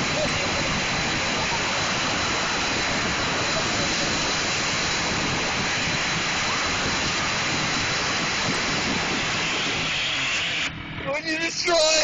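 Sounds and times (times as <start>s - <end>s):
paddle wheel churning water: 0.0s - 12.0s.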